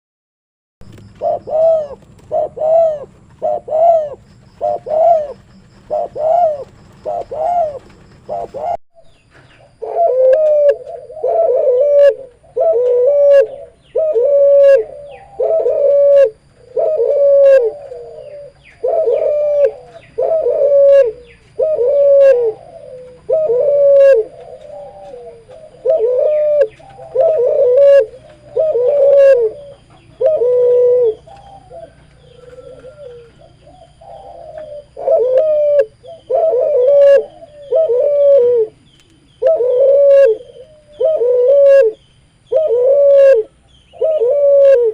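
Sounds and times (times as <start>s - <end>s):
dove cooing: 0.8s - 44.9s.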